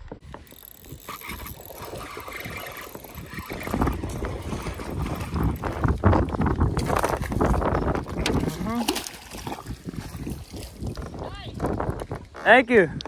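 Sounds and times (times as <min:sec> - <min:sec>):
water splashing and sloshing: 0:00.1 - 0:12.4
wind buffeting microphone: 0:00.1 - 0:13.0.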